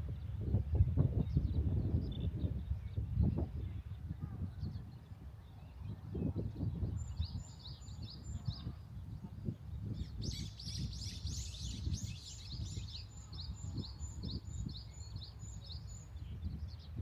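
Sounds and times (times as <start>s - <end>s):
small birds chirping: 1.3s - 17.0s.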